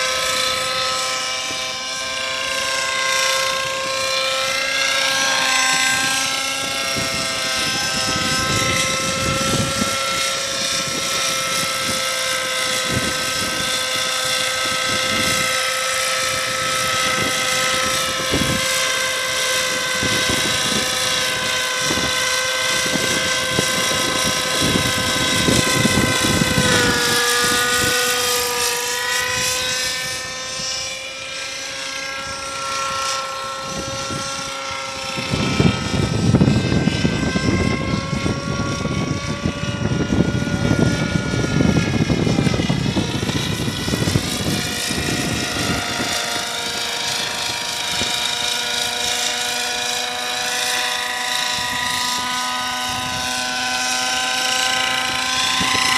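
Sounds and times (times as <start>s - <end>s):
model helicopter whine: 0.0s - 55.9s
wind on microphone: 0.0s - 55.9s.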